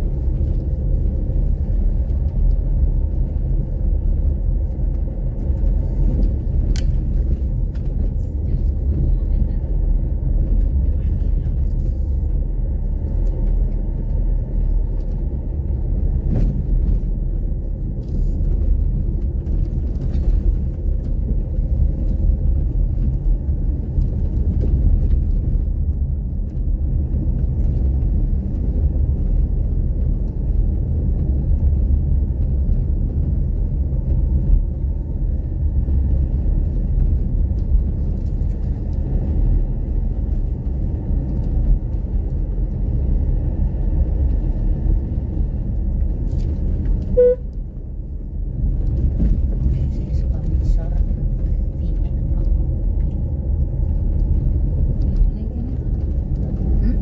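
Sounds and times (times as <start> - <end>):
vehicle driving on road: 0.0 - 57.0.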